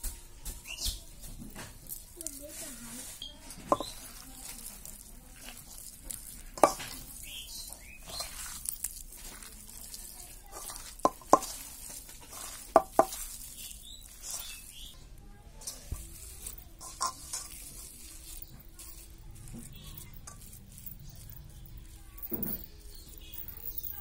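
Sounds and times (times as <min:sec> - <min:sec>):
hand mashing potatoes: 0:00.0 - 0:24.0.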